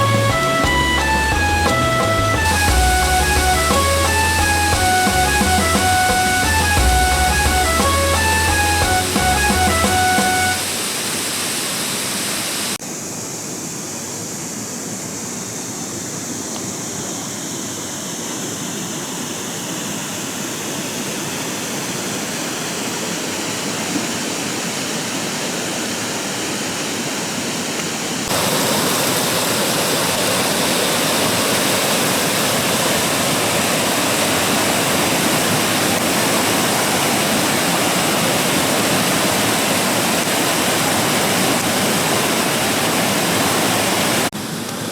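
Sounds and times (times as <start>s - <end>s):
stream rushing: 0.0s - 44.9s.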